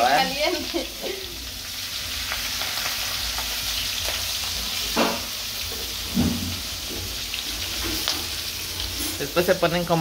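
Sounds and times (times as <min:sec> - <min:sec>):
shrimp sizzling in hot oil: 0:00.0 - 0:10.0.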